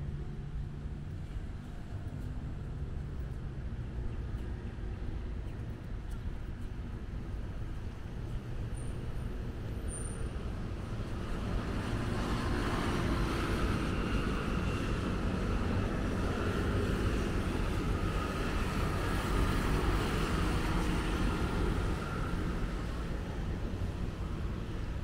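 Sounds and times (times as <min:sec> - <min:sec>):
cars and scooters driving past: 0:00.0 - 0:25.0.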